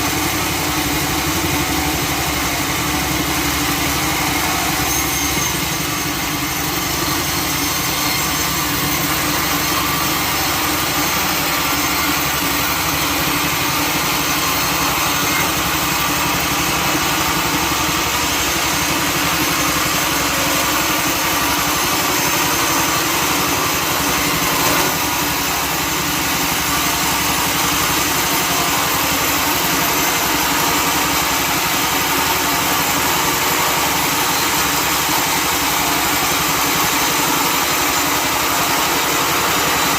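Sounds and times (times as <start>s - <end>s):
sawmill engine and saw drone: 0.0s - 39.9s.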